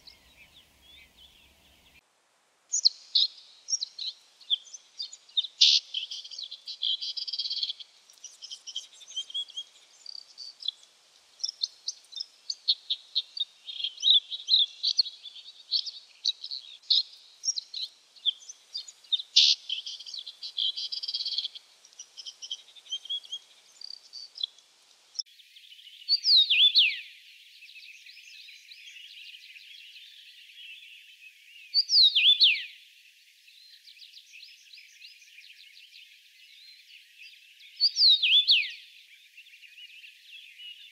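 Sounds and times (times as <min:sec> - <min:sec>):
faint bird twittering: 0:02.7 - 0:24.6, 0:25.5 - 0:32.8, 0:33.5 - 0:40.9.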